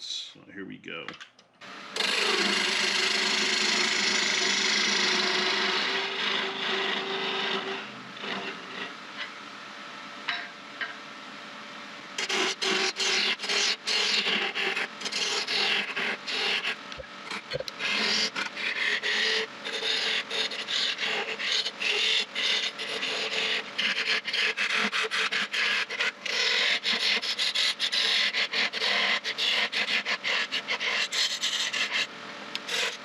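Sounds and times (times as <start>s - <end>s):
lathe hum: 1.6s - 10.1s, 12.2s - 33.0s
turning tool cutting wood: 1.9s - 9.0s, 12.2s - 33.0s.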